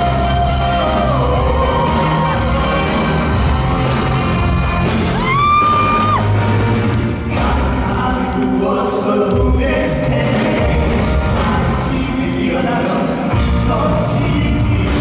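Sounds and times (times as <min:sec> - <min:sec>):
man singing: 0:00.0 - 0:04.7, 0:07.2 - 0:15.0
rock band playing: 0:00.0 - 0:15.0.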